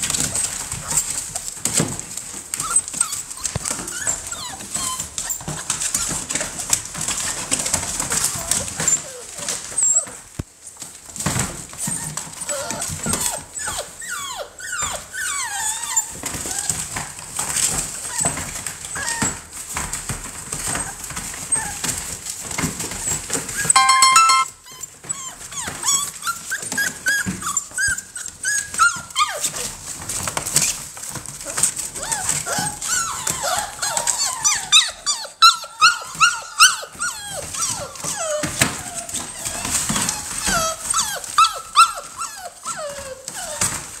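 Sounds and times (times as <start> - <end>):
paws scratching on plastic: 0.0 - 23.7, 25.1 - 44.0
puppies whining and yelping: 0.1 - 10.4, 11.2 - 44.0.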